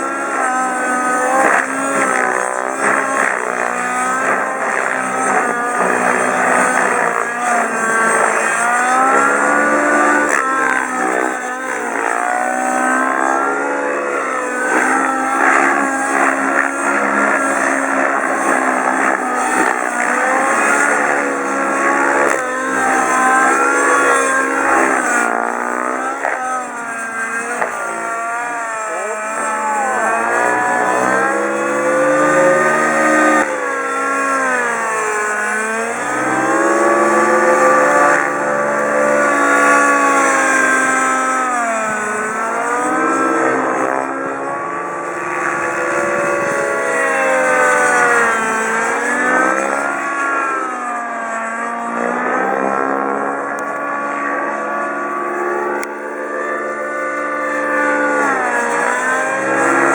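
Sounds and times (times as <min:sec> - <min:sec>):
model helicopter engine and rotors: 0:00.0 - 0:59.9.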